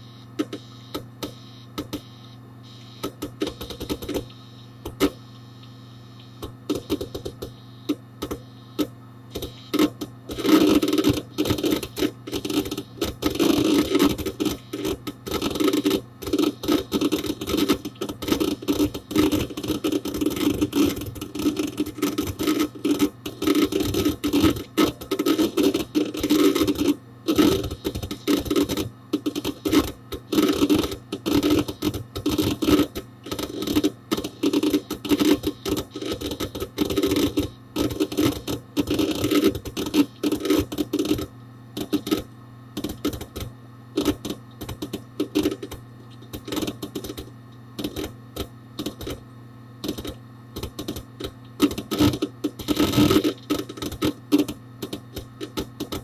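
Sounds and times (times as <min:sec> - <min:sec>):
steady low hum: 0:00.0 - 0:56.0
hard drive heads clicking: 0:06.4 - 0:42.2, 0:42.8 - 0:49.2, 0:49.8 - 0:56.0.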